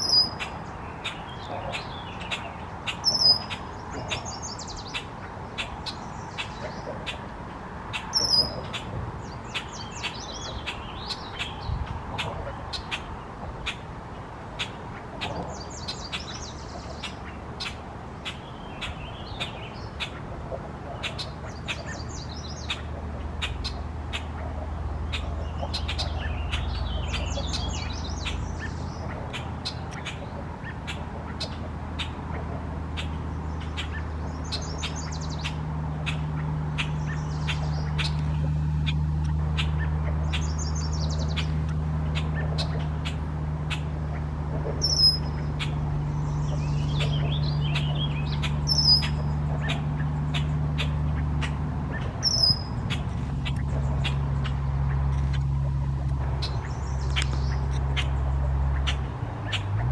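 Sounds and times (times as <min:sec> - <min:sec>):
birds chipping and singing: 0:00.0 - 0:59.9
low steady rumble: 0:00.0 - 0:59.9.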